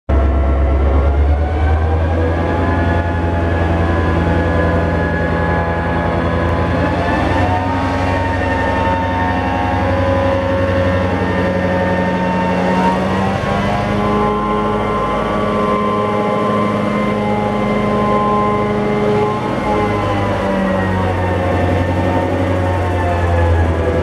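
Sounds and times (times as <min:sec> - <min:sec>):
diesel locomotive engine running: 0:00.1 - 0:24.0.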